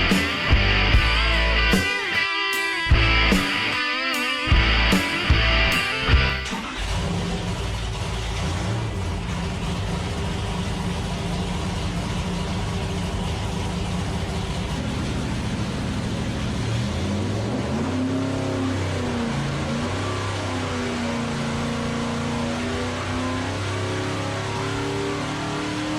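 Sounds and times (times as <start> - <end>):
car engine running and revving: 0.0 - 25.9.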